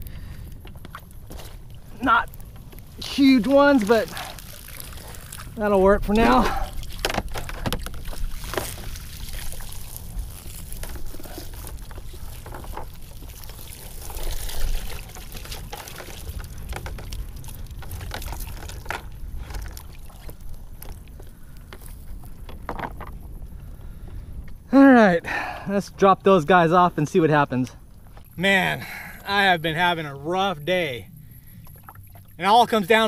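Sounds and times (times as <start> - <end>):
water streaming and dripping: 0.0 - 24.6, 25.6 - 33.0.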